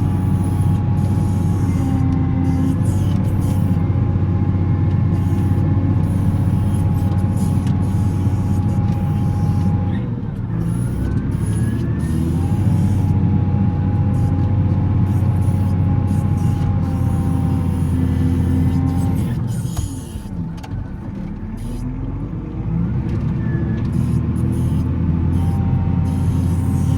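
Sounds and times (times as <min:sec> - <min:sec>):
wheel loader diesel engine: 0:00.0 - 0:26.9.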